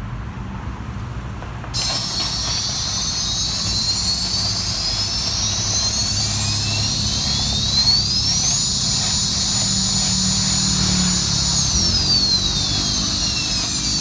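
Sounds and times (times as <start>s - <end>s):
low hum: 1.8s - 14.0s
motor whine: 1.8s - 14.0s.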